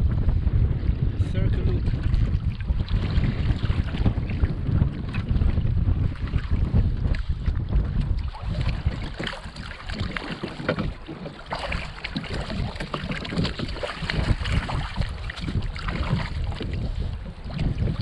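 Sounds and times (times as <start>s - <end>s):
water splashing against hull: 0.0s - 18.0s
wind buffeting microphone: 0.0s - 18.0s.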